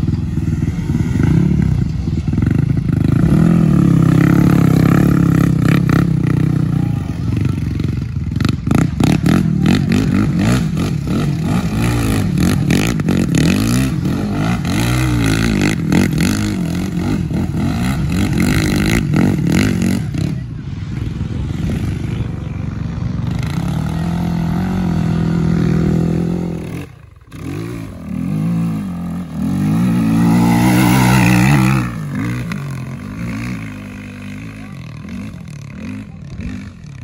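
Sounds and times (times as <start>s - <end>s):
atv engine revving: 0.0s - 37.0s.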